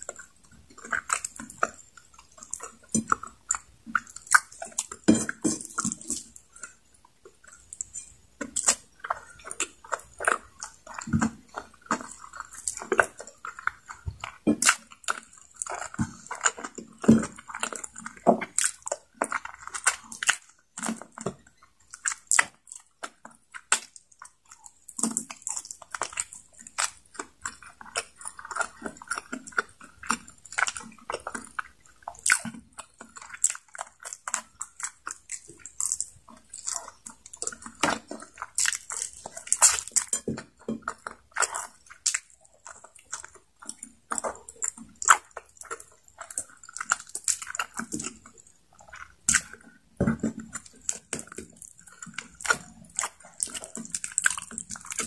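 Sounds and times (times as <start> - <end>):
close chewing: 0.0 - 55.0
wet mouth clicks and smacks: 0.0 - 55.0.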